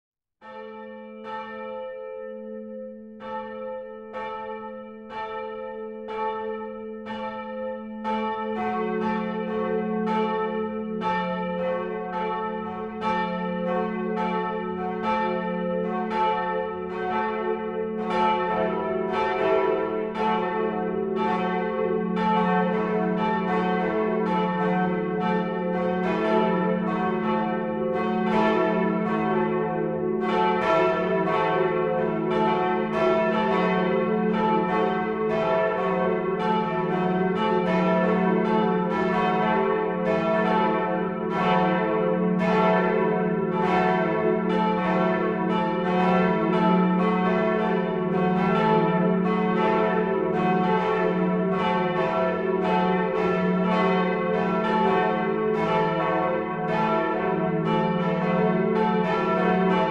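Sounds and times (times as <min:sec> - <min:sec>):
church bells ringing: 0:00.4 - 0:59.9.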